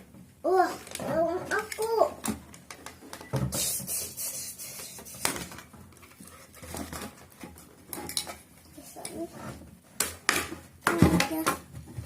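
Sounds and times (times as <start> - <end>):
plastic toys rubbing: 0.5 - 11.5.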